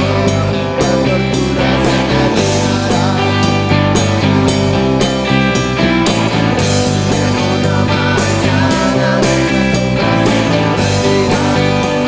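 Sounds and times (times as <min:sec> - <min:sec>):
drum and cymbal hits: 0:00.0 - 0:12.0
rock band playing live: 0:00.0 - 0:12.0.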